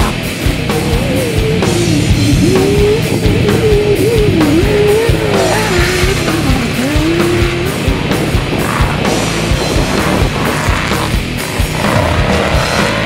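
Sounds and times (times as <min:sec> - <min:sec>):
rock music with guitar and drums: 0:00.0 - 0:13.0.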